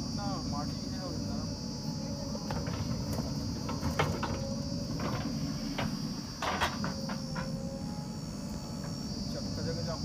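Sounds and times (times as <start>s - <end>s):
diesel engines running: 0.0s - 10.0s.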